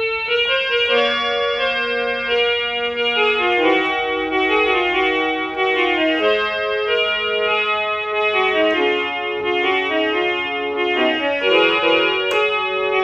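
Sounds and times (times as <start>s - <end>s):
toy keyboard playing a tune: 0.0s - 13.0s.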